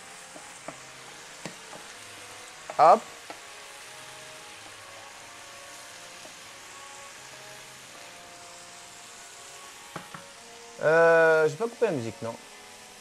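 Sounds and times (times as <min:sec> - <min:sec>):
faint background music: 0:00.0 - 0:13.0
food sizzling in a frying pan: 0:00.0 - 0:13.0.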